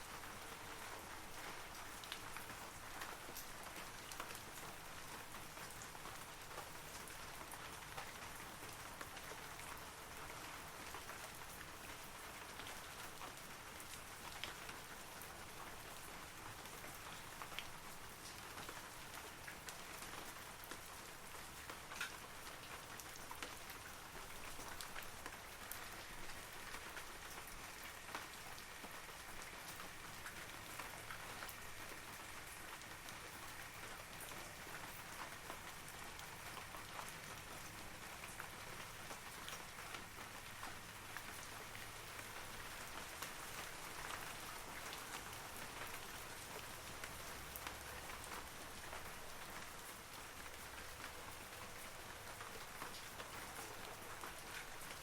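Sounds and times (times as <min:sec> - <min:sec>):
light rain on leaves: 0:00.0 - 0:55.0.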